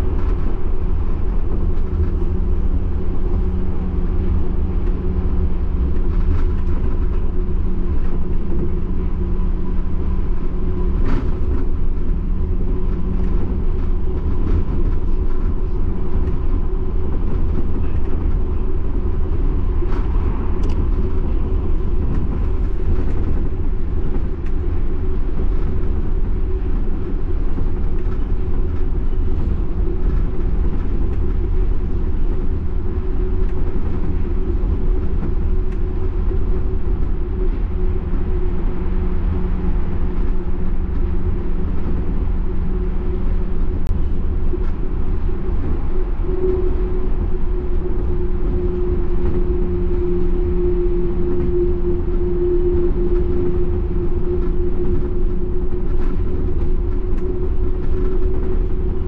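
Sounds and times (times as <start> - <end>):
steady hum: 0.0 - 59.0
train tyres rumbling: 0.0 - 59.0.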